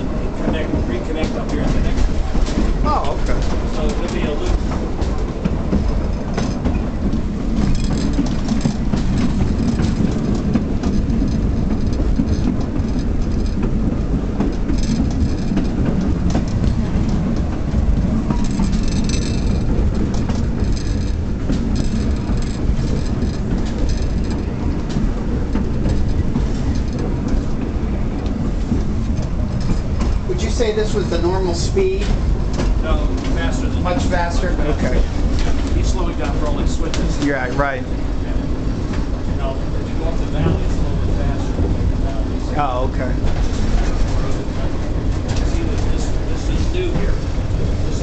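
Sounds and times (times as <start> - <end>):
trolley car rumbling on track: 0.0 - 48.0
wheels clicking over rail joints: 0.0 - 48.0.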